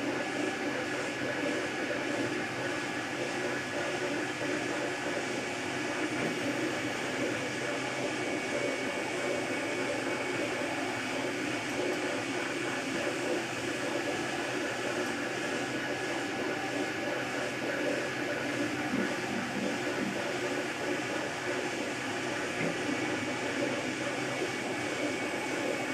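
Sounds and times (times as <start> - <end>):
cooling fan whine: 0.0 - 25.9.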